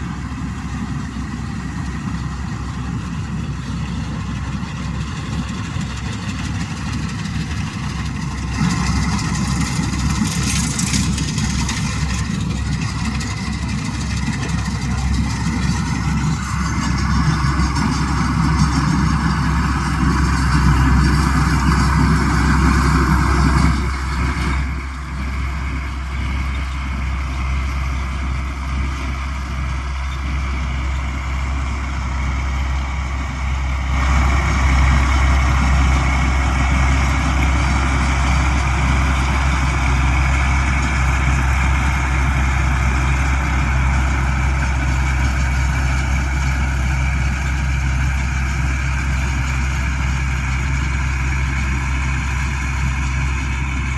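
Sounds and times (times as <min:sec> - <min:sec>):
combine harvester drone: 0:00.0 - 0:53.9.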